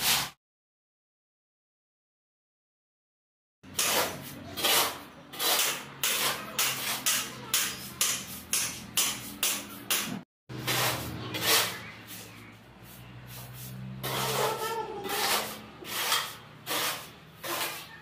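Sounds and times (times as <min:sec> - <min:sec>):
tool scraping through sand and cement: 0:00.0 - 0:00.4, 0:03.7 - 0:18.0.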